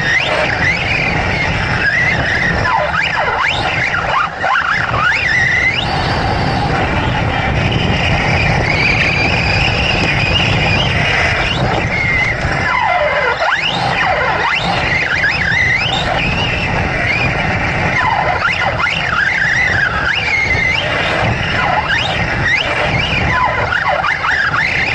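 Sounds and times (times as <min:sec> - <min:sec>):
electric motor whining: 0:00.0 - 0:24.9
tyres rattling on dirt: 0:00.0 - 0:24.9.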